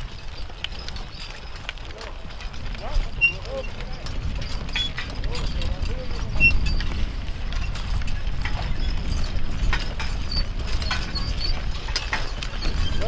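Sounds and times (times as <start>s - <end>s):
hooves and harness clinks: 0.0s - 13.0s.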